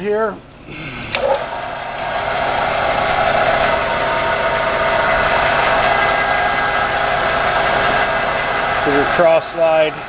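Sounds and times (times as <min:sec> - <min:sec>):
lathe whirring with whine: 0:01.1 - 0:10.0.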